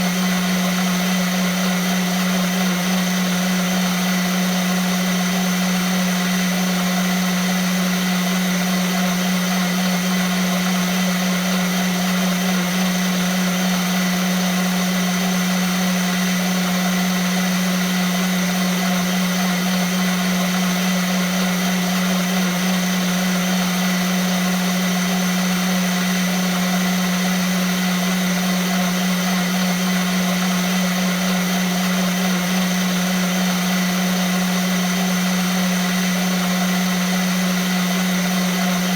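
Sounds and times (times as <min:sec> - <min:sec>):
blender running: 0:00.0 - 0:38.9.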